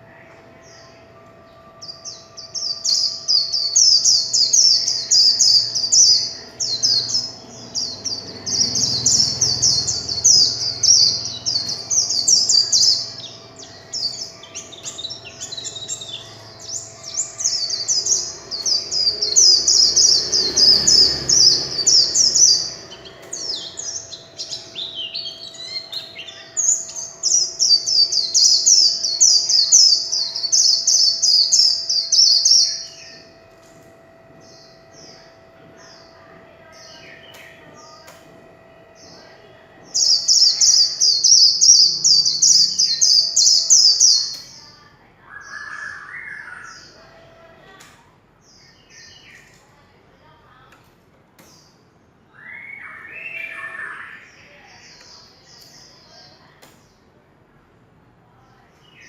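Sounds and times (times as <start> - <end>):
bird twittering song: 0.0 - 49.9, 51.4 - 57.1
faint steady hum: 0.0 - 59.0.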